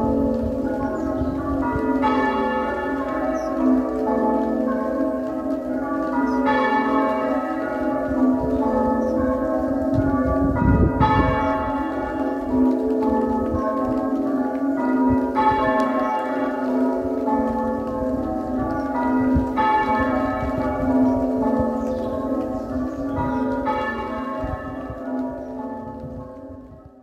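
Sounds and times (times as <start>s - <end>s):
muffled church bells ringing: 0.0s - 27.0s.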